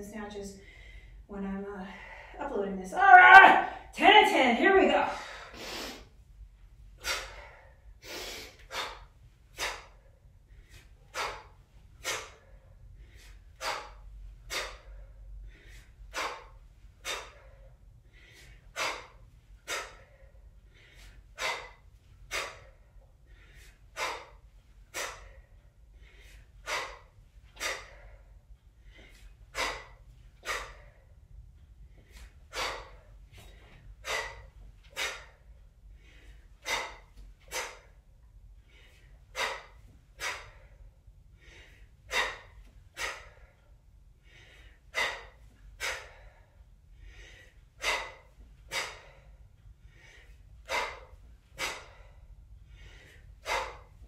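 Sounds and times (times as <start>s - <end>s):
woman breathing forcefully: 0.3s - 4.0s, 4.8s - 54.0s.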